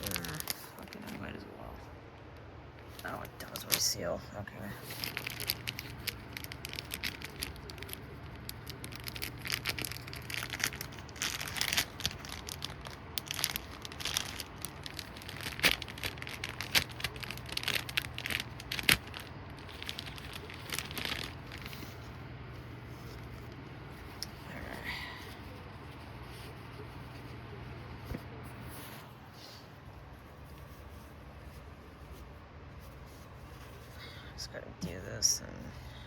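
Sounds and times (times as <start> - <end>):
plastic packaging crinkling: 0.0 - 1.4, 2.8 - 34.1.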